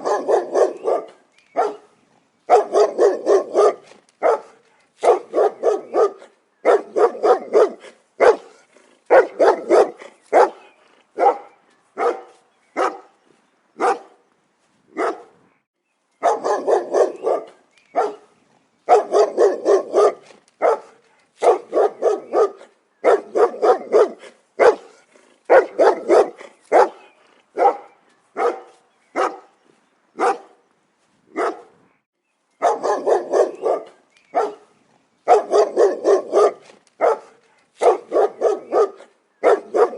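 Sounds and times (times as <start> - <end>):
dog barking: 0.0 - 1.9, 2.5 - 13.1, 13.8 - 14.2, 15.0 - 15.4, 16.2 - 18.3, 18.9 - 29.5, 30.2 - 30.6, 31.3 - 31.8, 32.6 - 34.7, 35.3 - 39.9.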